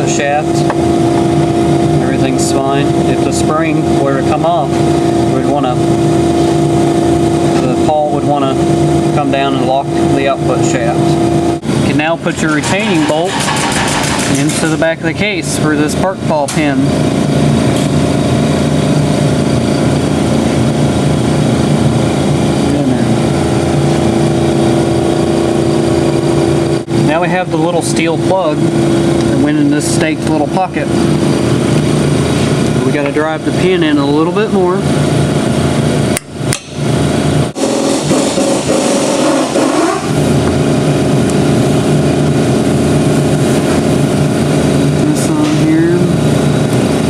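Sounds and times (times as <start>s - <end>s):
machine droning: 0.0s - 47.0s.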